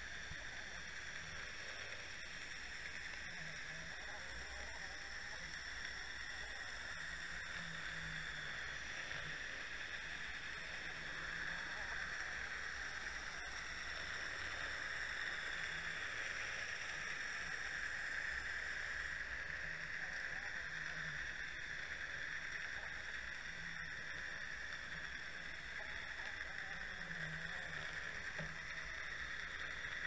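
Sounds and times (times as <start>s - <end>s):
faint high whines: 0.0s - 30.0s
underwater hiss: 0.0s - 30.0s.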